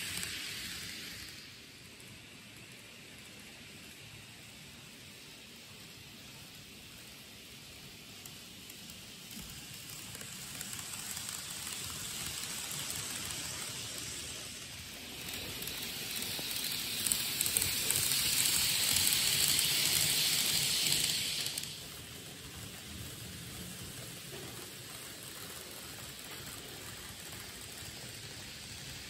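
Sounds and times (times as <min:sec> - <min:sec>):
model train motor crackling: 0:00.0 - 0:29.0
model train wheels hissing on rails: 0:00.0 - 0:29.0.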